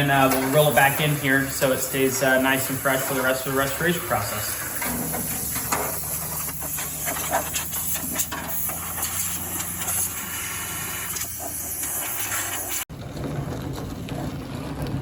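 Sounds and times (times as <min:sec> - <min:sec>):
air blow gun hissing: 0:00.1 - 0:12.9.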